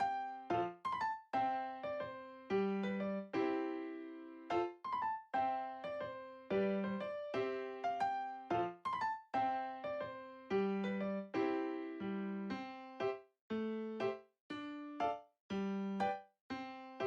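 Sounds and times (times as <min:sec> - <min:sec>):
light piano tune: 0:00.0 - 0:17.0.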